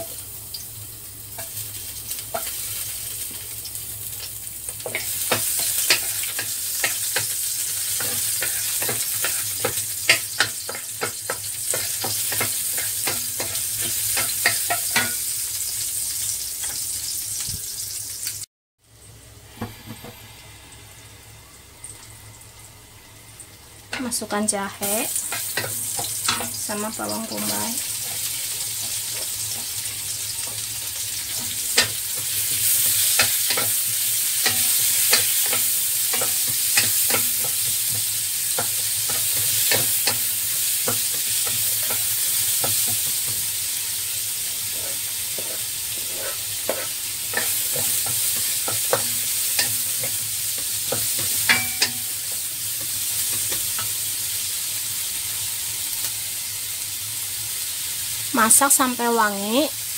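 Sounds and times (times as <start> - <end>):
onion sizzling in hot oil: 0.0 - 59.9.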